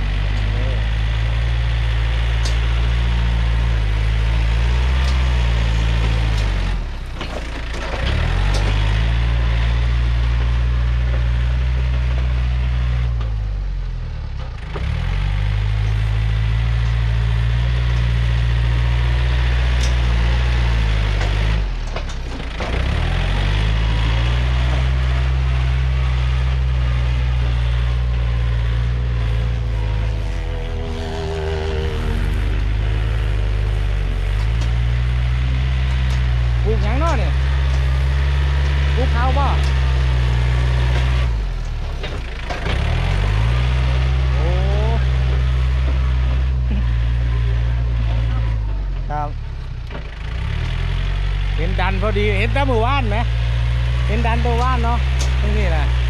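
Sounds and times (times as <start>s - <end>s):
blade pushing soil: 0.0s - 13.4s, 14.6s - 56.0s
tractor diesel engine running: 0.0s - 56.0s.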